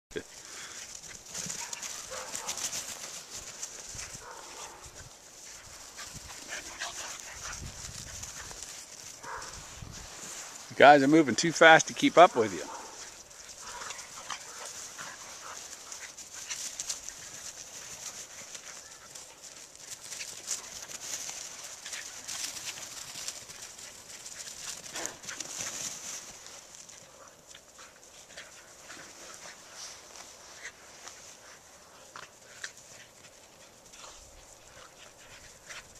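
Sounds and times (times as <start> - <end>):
dogs scuffling while running: 0.3 - 35.9.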